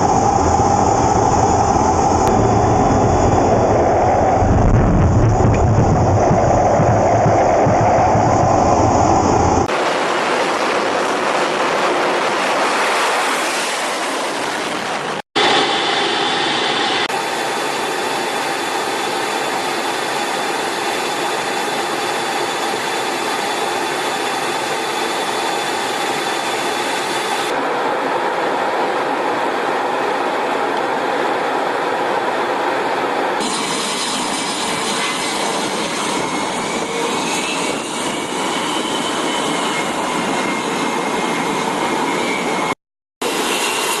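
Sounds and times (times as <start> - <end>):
jet engines rushing: 0.0 - 44.0.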